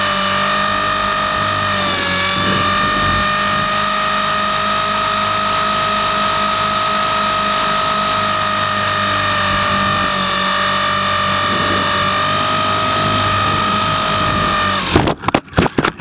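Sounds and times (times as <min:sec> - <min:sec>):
helicopter motor whine: 0:00.0 - 0:15.3
pulsing rotor hum: 0:00.0 - 0:15.3.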